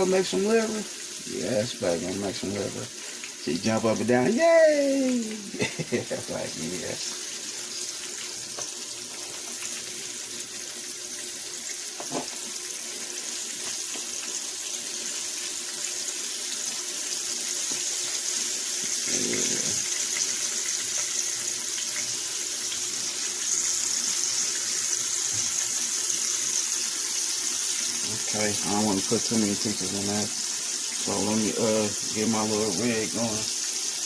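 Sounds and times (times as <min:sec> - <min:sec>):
chicken liver sizzling in oil: 0:00.0 - 0:34.0.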